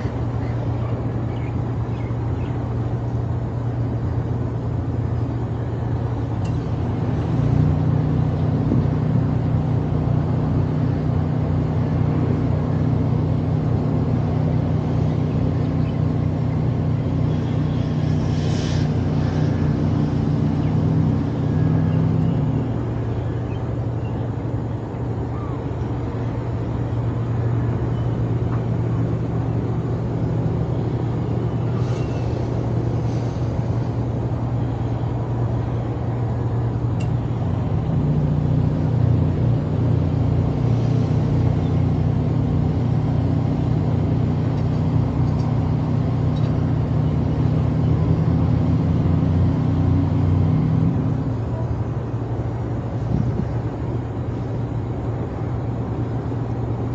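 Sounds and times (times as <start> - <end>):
low engine drone: 0.0 - 56.9.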